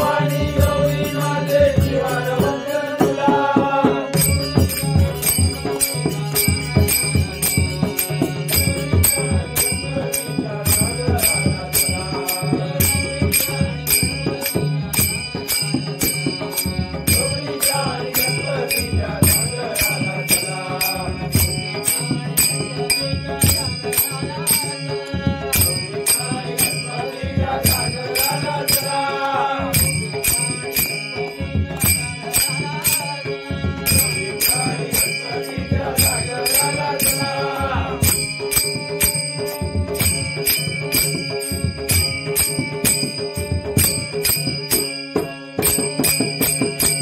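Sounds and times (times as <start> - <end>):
hand drums: 0.0 - 47.0
harmonium: 0.0 - 47.0
men singing: 0.0 - 47.0
brass hand cymbals clashing: 4.2 - 47.0.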